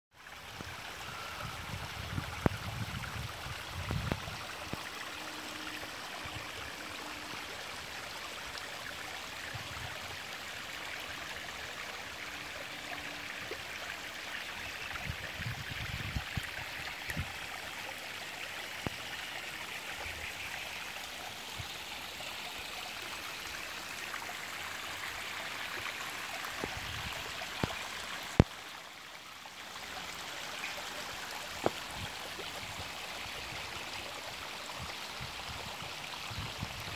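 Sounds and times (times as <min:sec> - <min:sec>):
shallow water flowing: 0:00.2 - 0:36.9.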